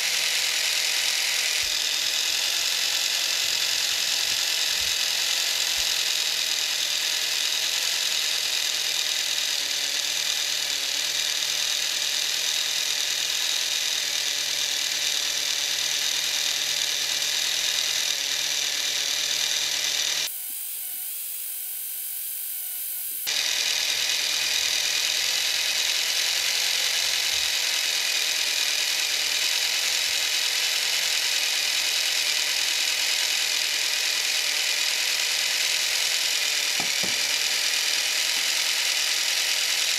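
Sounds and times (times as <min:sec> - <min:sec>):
small electric motor whirring: 0:00.0 - 0:39.9.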